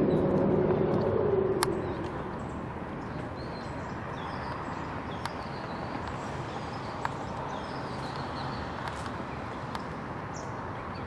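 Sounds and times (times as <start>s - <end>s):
outdoor background noise: 0.0s - 11.0s
small birds chirping: 1.6s - 11.0s.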